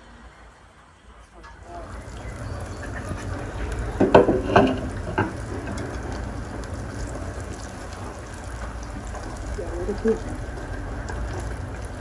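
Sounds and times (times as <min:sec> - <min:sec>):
food deep-frying in oil: 0:01.4 - 0:12.0.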